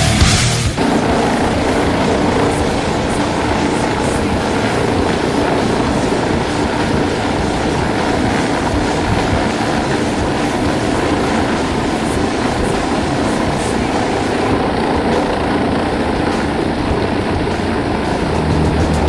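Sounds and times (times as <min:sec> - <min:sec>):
helicopter rotor chopping: 0:00.8 - 0:19.0.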